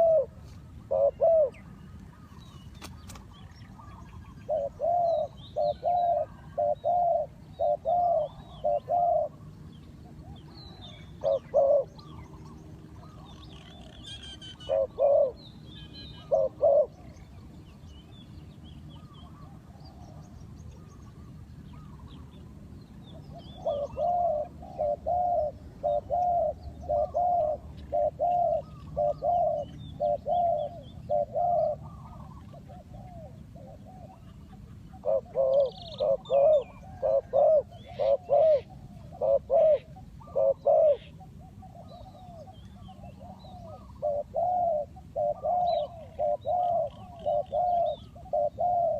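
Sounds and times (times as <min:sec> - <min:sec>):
dove cooing: 0:00.0 - 0:17.4, 0:23.1 - 0:48.9
small birds chirping: 0:00.0 - 0:48.9.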